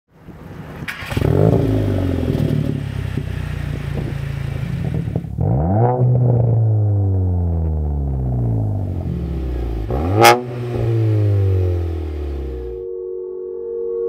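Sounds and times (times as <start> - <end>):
car engine idling: 0.2 - 12.8
engine revving: 0.6 - 12.8.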